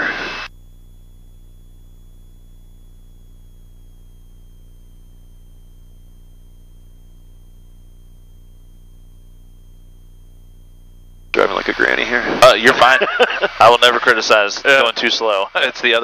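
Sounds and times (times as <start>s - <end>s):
jet engine idling hum: 0.0s - 16.0s.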